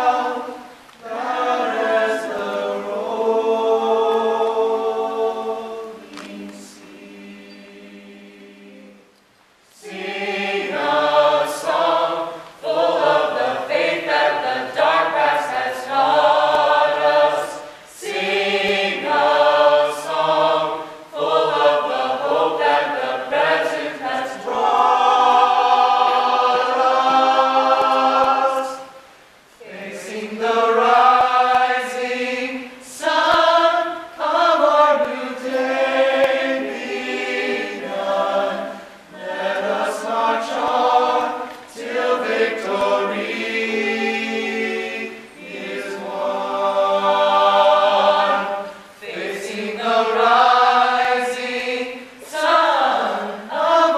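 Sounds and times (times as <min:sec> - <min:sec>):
mixed choir singing a cappella: 0:00.0 - 0:53.9.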